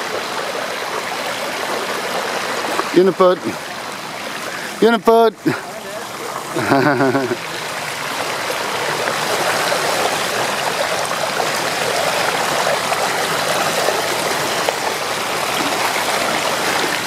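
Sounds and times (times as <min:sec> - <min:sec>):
bicycle tyres splashing through water: 0:00.0 - 0:17.0.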